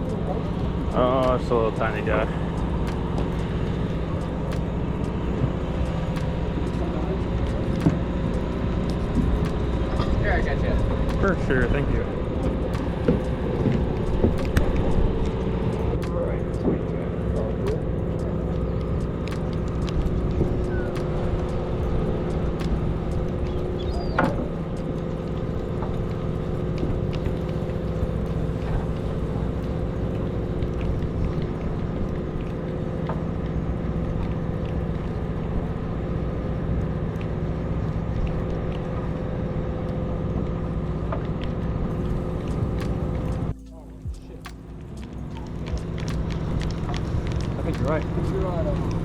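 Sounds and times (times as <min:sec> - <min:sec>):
boat engine humming: 0:00.0 - 0:49.0.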